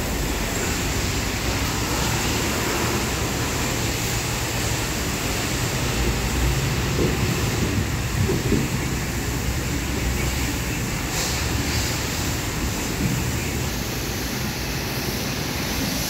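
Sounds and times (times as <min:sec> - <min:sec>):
rushing noise with low rumble: 0:00.0 - 0:16.0.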